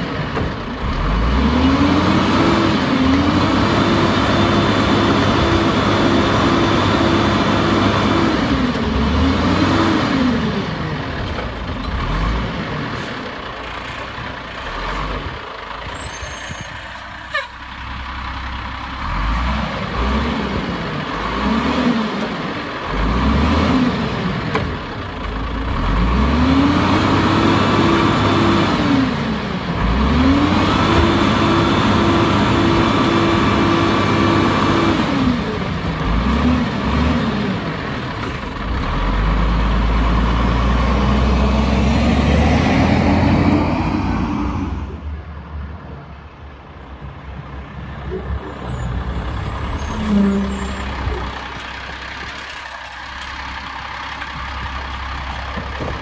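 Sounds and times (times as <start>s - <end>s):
garbage truck diesel engine revving: 0.0s - 15.9s, 17.1s - 45.8s, 47.6s - 56.0s.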